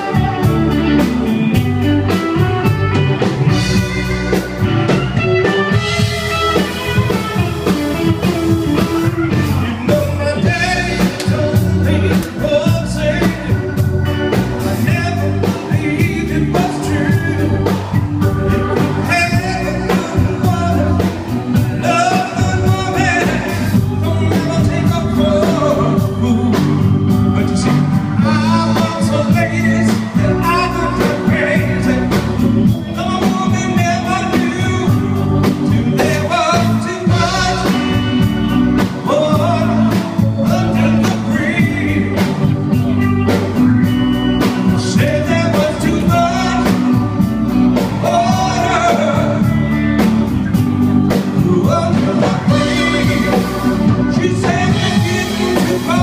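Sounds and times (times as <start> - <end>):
blues band playing: 0.0 - 56.0
person singing: 0.0 - 56.0.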